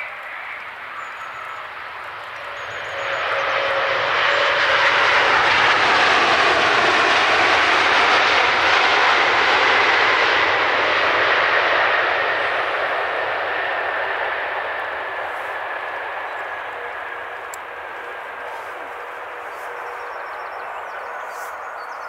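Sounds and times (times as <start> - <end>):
faint falling engine whine: 0.0 - 22.0
jet airliner passing: 0.0 - 22.0.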